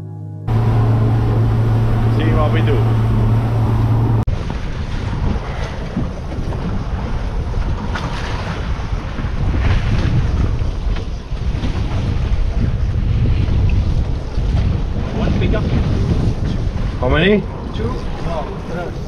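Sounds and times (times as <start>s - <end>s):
sea water washing around boat: 0.5s - 19.0s
wind buffeting microphone: 0.5s - 19.0s.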